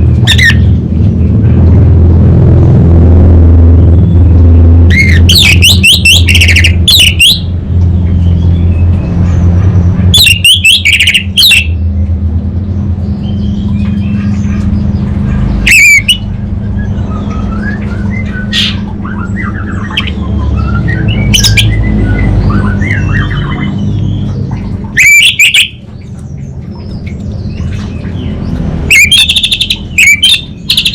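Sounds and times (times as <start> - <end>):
thrush singing harsh calls: 0.0 - 1.4, 4.0 - 30.9
steady low hum: 0.0 - 30.9.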